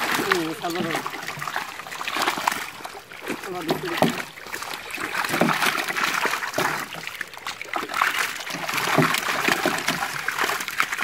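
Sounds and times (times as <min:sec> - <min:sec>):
fish flapping and splashing: 0:00.0 - 0:11.0.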